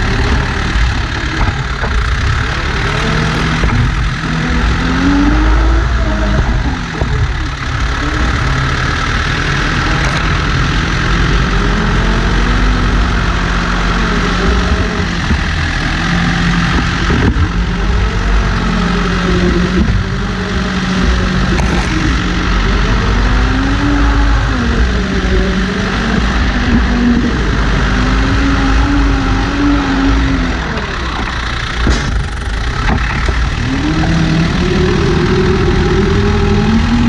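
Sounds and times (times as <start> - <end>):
diesel engine running under load: 0.0 - 37.0.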